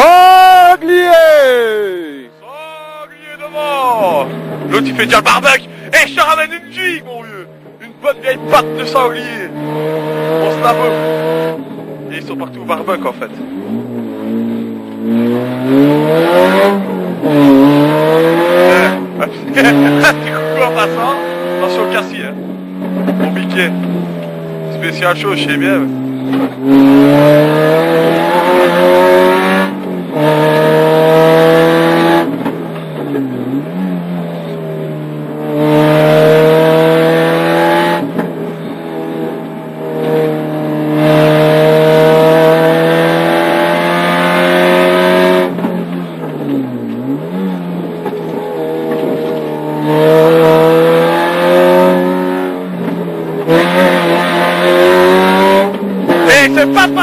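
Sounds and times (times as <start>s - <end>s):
gear changes: 0.0s - 57.0s
rally car engine revving: 0.0s - 57.0s.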